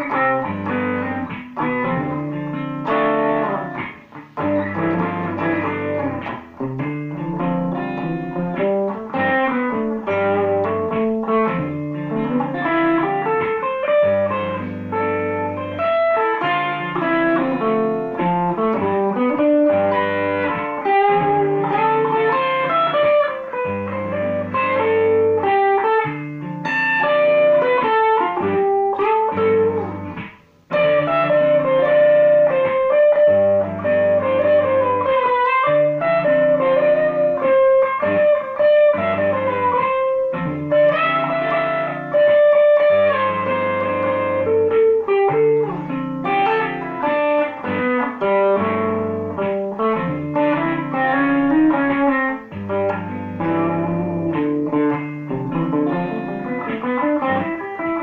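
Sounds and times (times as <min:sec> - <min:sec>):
electric guitar single-note line: 0:00.0 - 0:58.0
looped guitar chords: 0:00.0 - 0:58.0.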